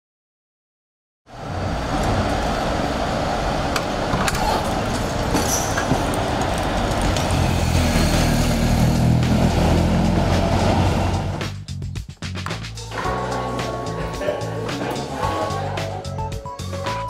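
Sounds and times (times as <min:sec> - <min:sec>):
road traffic: 0:01.3 - 0:11.9, 0:12.5 - 0:16.2.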